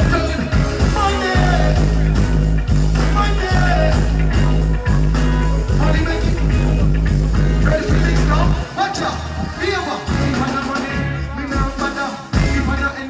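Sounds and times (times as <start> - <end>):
drum beat: 0.0 - 12.8
heavy bass line: 0.0 - 13.0
man deejaying into a microphone: 0.0 - 13.0.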